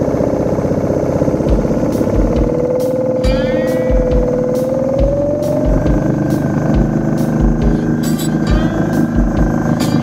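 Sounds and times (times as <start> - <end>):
small boat motor running: 0.0 - 10.0
music with steady beat: 1.4 - 10.0.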